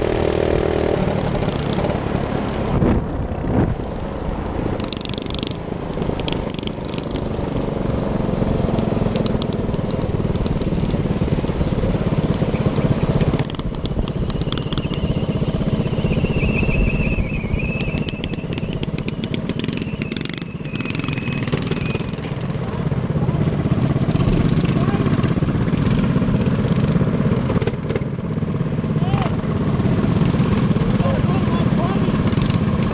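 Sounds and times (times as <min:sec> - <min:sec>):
minibike engine running: 0:04.8 - 0:32.9.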